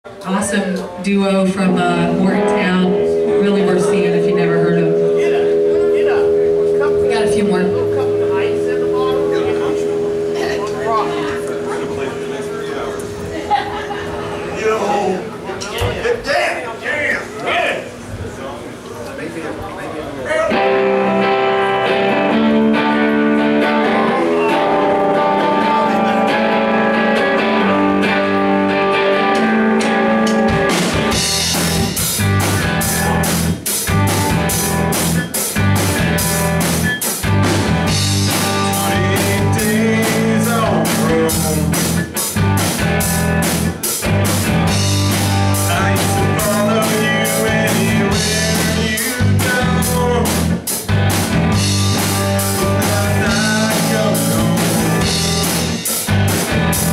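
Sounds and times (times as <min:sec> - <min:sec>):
electric guitars playing: 0:00.1 - 0:15.6, 0:20.3 - 0:56.9
drum kit beat: 0:01.2 - 0:14.6, 0:20.5 - 0:56.9.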